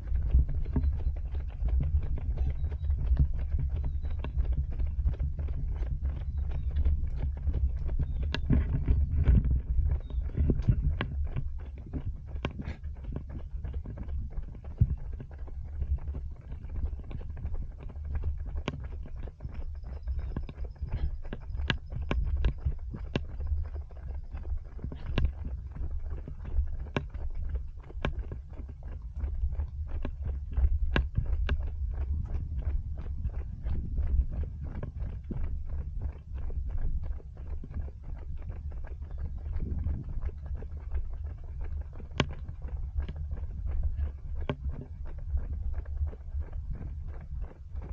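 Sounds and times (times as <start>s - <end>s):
running footsteps: 0.0s - 47.9s
wind rumble on microphone: 0.0s - 47.9s.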